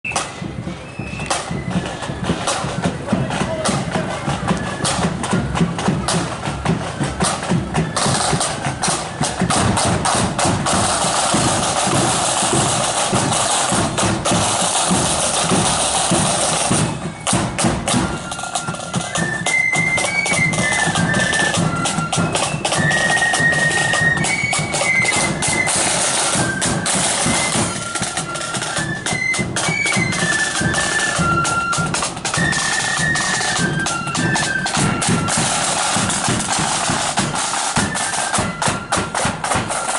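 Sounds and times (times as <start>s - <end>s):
flutes playing a high tune: 0.0s - 39.9s
snare and bass drums: 0.1s - 39.9s.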